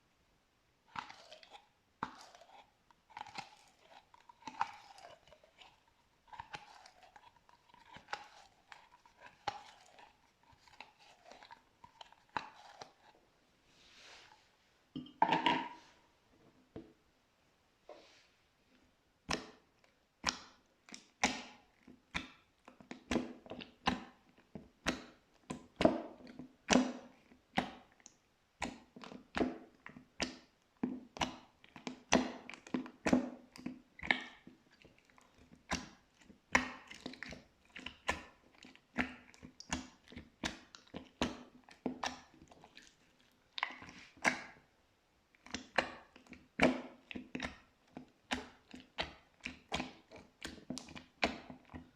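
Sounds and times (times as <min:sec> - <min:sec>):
slime squishing with sticky pops: 0:00.8 - 0:13.1, 0:19.2 - 0:51.9.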